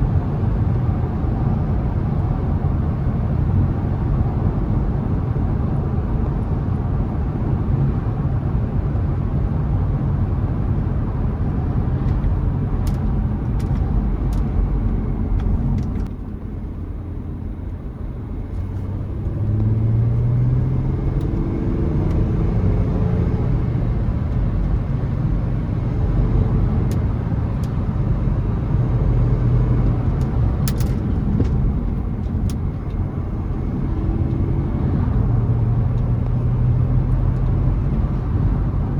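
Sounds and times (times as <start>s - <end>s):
diesel car engine accelerating: 0.0s - 38.9s
road and tyre rumble: 0.0s - 38.9s.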